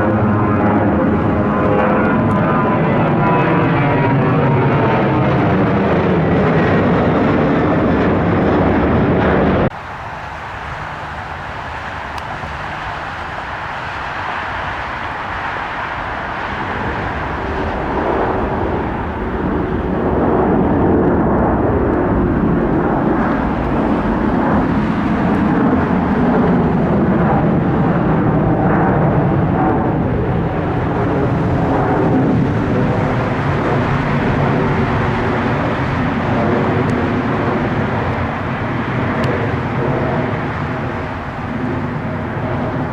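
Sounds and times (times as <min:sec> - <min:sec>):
airplane engine noise: 0:00.0 - 0:42.9.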